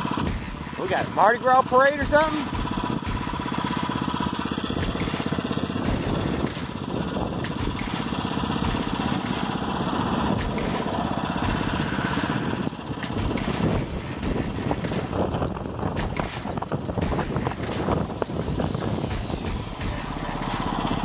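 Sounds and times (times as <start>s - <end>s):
small bicycle engine running: 0.0s - 21.0s.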